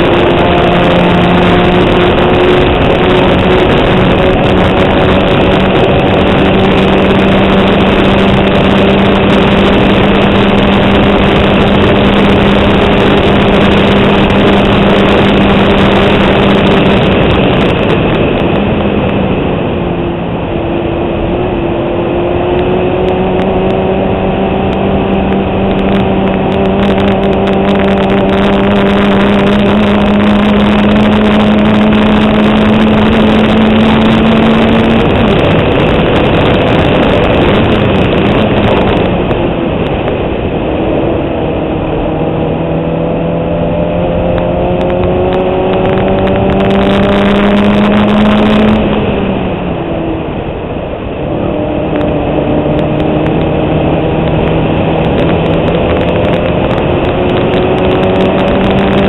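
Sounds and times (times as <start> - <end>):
racing car engine revving: 0.0 - 59.0
wind noise on microphone: 0.0 - 59.0.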